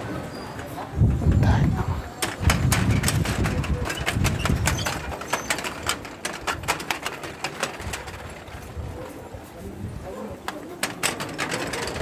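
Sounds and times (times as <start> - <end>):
metal prayer wheels clicking: 0.5 - 9.0, 10.4 - 12.0.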